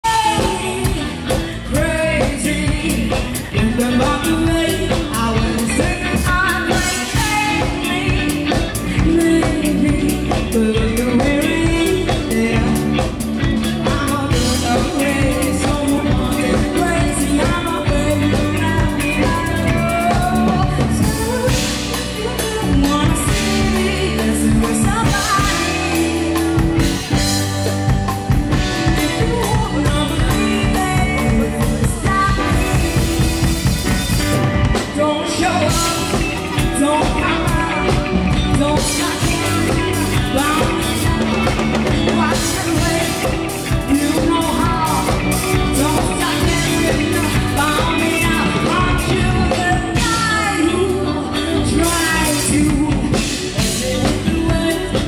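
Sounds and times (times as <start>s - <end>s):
woman singing into a microphone: 0.0s - 27.5s, 28.1s - 55.0s
drum kit: 0.0s - 55.0s
electric guitars: 0.0s - 55.0s
keyboard: 0.0s - 55.0s.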